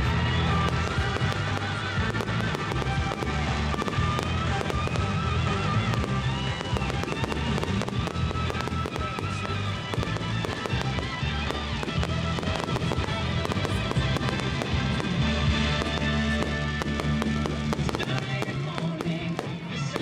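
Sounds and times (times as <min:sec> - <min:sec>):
fireworks bangs and crackles: 0:00.0 - 0:20.0
loud music with steady bass: 0:00.0 - 0:20.0.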